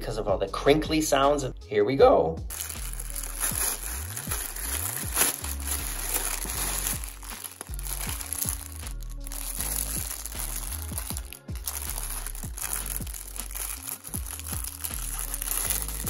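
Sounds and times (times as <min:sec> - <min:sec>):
background music with bass: 0:00.0 - 0:16.0
plastic packaging crinkling: 0:02.5 - 0:16.0.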